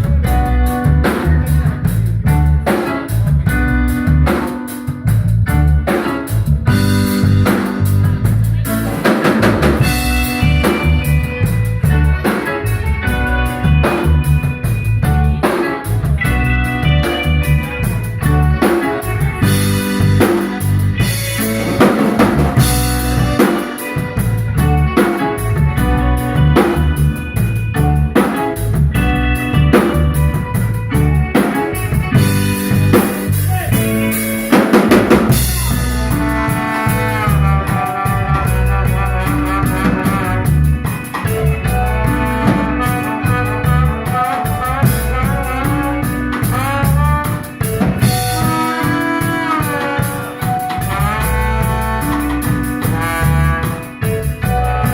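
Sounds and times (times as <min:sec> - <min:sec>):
bass line: 0:00.0 - 0:54.9
drum kit beat: 0:00.0 - 0:54.9
melodic line with bending notes: 0:00.0 - 0:54.9.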